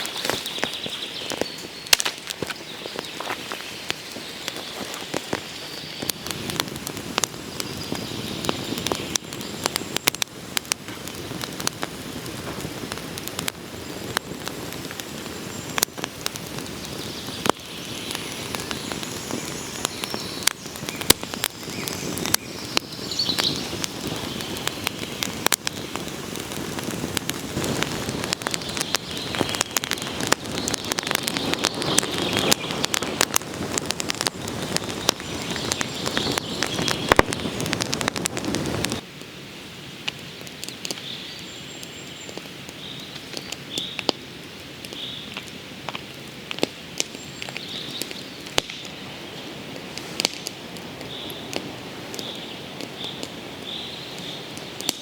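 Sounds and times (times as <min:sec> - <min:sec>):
sharp pops and snaps: 0:00.0 - 0:39.0, 0:40.0 - 0:49.0, 0:49.7 - 0:55.0
fire hiss: 0:00.0 - 0:55.0
wood fire crackling: 0:00.0 - 0:55.0.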